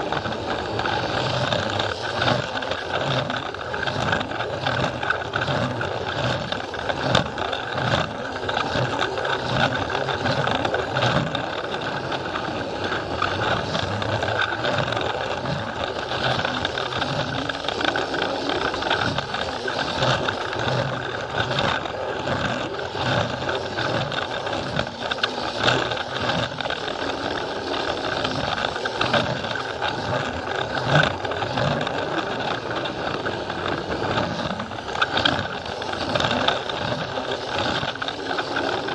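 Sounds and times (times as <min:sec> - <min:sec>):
toy train motor running: 0:00.0 - 0:38.9
wheels rattling on plastic track: 0:00.0 - 0:38.9.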